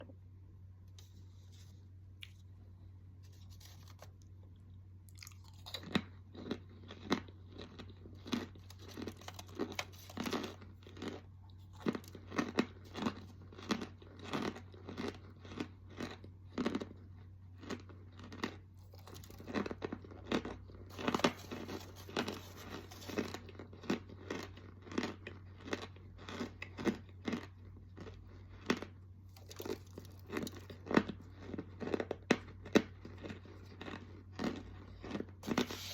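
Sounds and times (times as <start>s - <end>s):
person chewing crunchy snack: 3.2s - 35.9s.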